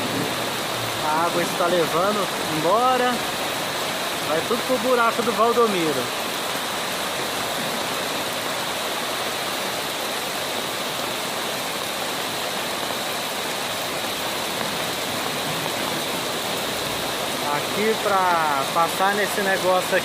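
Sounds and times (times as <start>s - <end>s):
floodwater rushing along street: 0.0s - 20.0s
heavy rain: 0.0s - 20.0s.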